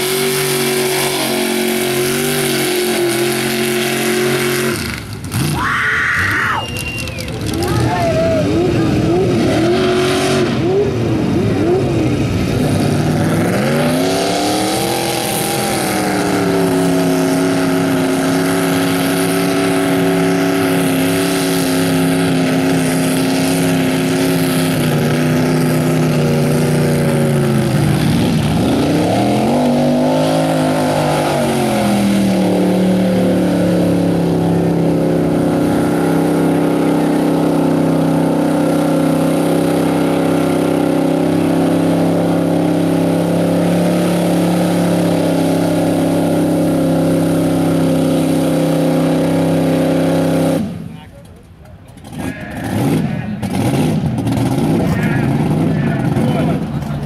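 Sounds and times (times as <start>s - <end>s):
truck churning through mud: 0.0s - 57.0s
truck engine at high revs: 0.0s - 57.0s.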